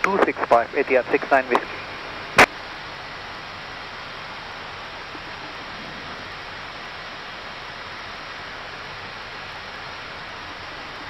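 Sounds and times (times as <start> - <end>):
steady rush of air: 0.3 - 11.0.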